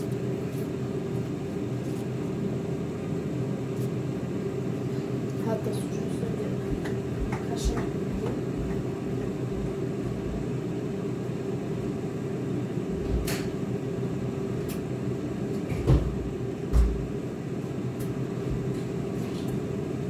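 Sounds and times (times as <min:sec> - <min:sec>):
air fryer fan humming: 0:00.0 - 0:20.0.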